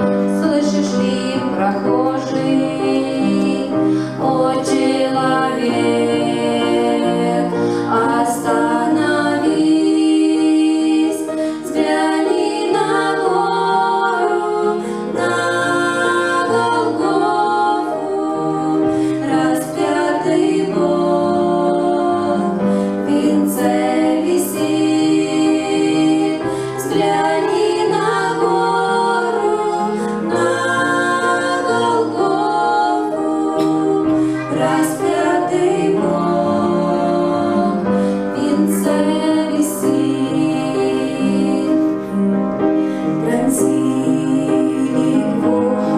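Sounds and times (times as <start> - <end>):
choir singing a hymn: 0.0 - 45.9.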